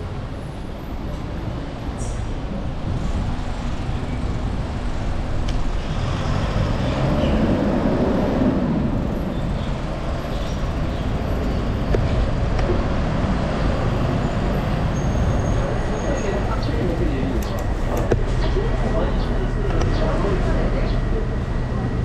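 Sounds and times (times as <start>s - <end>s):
road traffic noise: 0.0s - 22.0s
wind rumbling on microphone: 1.4s - 20.3s
vehicle passing: 3.0s - 22.0s.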